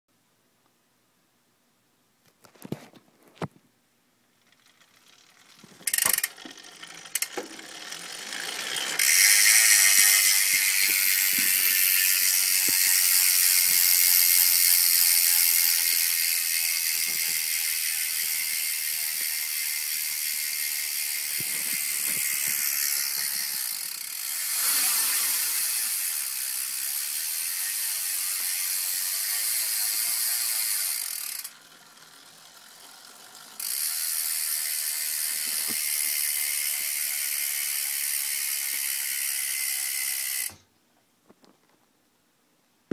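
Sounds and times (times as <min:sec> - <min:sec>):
bicycle freehub buzzing: 0:04.2 - 0:40.7.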